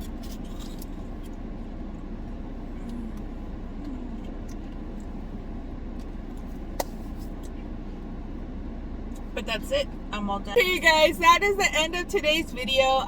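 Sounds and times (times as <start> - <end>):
air conditioning blowing: 0.0 - 13.0
car engine running: 0.0 - 13.0.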